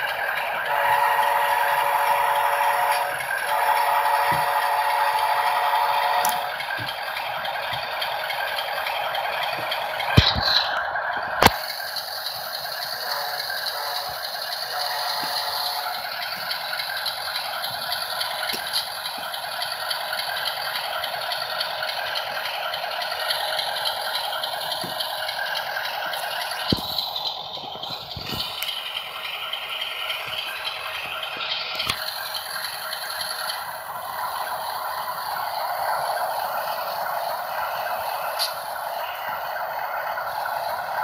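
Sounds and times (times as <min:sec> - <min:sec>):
model train rattling whir: 0:00.0 - 0:41.0.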